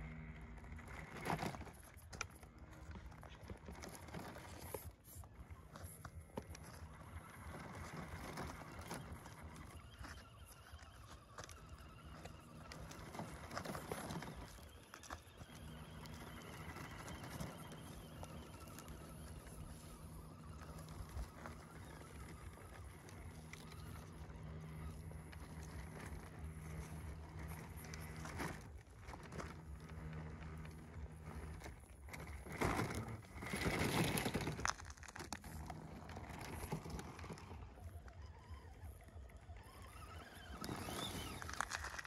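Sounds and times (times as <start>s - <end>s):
electric motors whining: 0.0s - 42.0s
tyres and chassis scraping: 0.0s - 42.0s.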